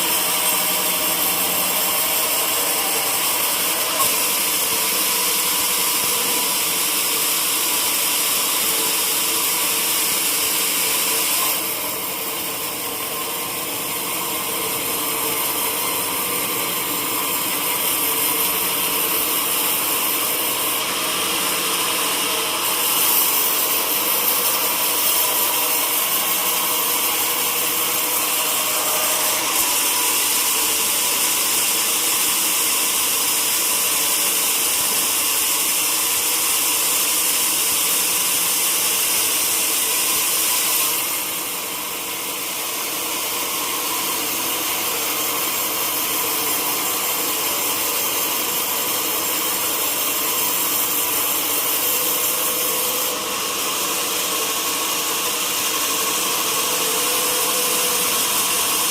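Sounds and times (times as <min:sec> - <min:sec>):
sawmill saw cutting log: 0:00.0 - 0:58.9.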